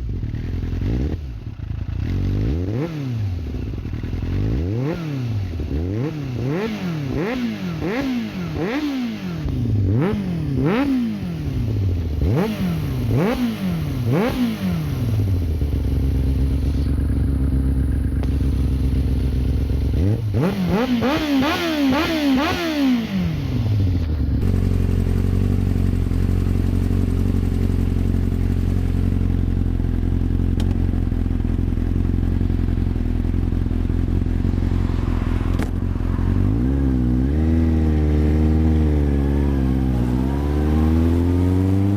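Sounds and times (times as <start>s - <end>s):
motorcycle engine revving and idling: 0.0s - 41.9s.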